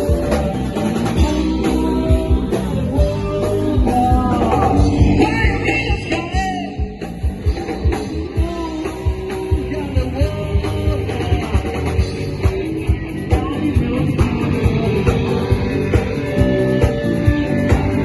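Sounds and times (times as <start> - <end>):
person singing: 0.0 - 15.8
guitar: 0.0 - 18.0
steady drum beat: 0.0 - 18.0.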